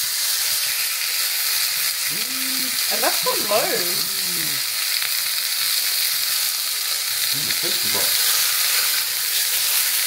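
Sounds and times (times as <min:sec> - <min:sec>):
steak sizzling in frying pan: 0:00.0 - 0:10.0.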